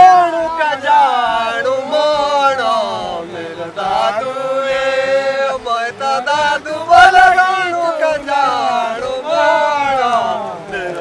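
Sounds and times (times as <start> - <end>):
men singing folk song together: 0.0 - 11.0.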